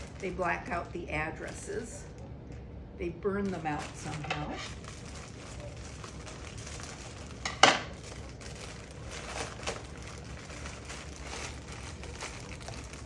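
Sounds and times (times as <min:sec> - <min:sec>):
plastic and paper rustling: 0:00.0 - 0:02.2, 0:03.4 - 0:13.0.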